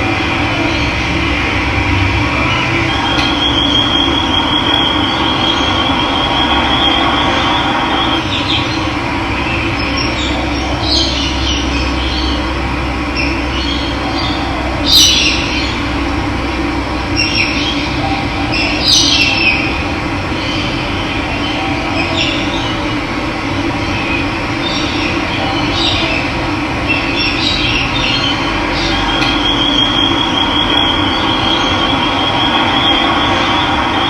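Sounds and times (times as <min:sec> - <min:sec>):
birds chirping: 0:00.0 - 0:16.1, 0:17.0 - 0:23.0, 0:23.6 - 0:34.0.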